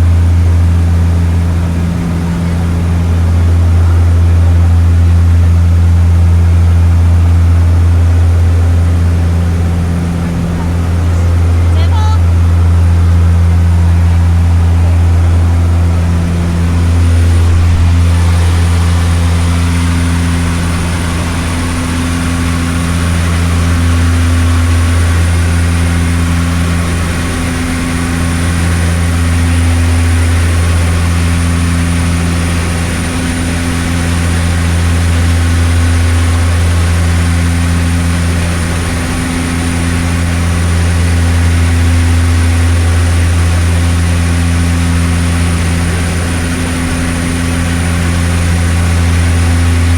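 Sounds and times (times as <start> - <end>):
propeller engines droning: 0.0 - 49.9.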